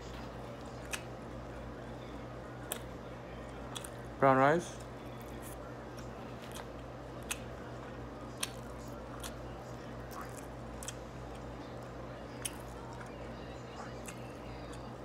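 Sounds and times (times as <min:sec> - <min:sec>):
chewing with wet mouth sounds: 0:00.0 - 0:04.1, 0:04.7 - 0:15.0
steady low hum: 0:00.0 - 0:15.0.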